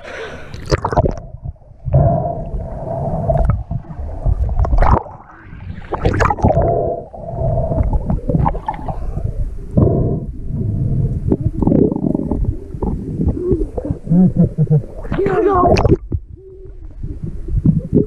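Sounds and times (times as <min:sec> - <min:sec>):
water sloshing and gurgling: 0:00.0 - 0:18.0
low underwater rumbles and knocks: 0:00.7 - 0:18.0.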